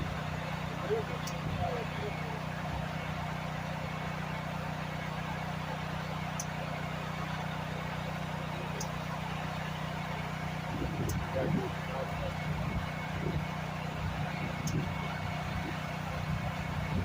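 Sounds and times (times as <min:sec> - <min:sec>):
pressure washer engine humming: 0:00.0 - 0:17.0.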